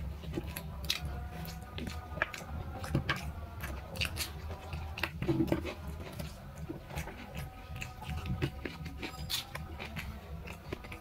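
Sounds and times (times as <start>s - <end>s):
fingers mixing food on a plate: 0.0s - 11.0s
person chewing: 0.0s - 11.0s.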